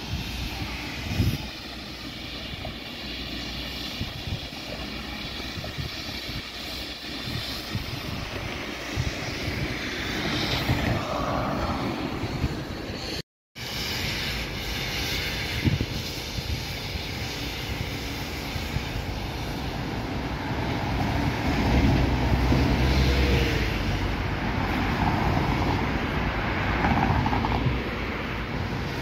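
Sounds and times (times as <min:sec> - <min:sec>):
wind rumble on microphone: 0:00.0 - 0:01.8, 0:03.7 - 0:13.2, 0:15.2 - 0:29.0
tram motors humming: 0:00.0 - 0:13.2, 0:13.9 - 0:29.0
tram wheels on rails: 0:00.0 - 0:29.0.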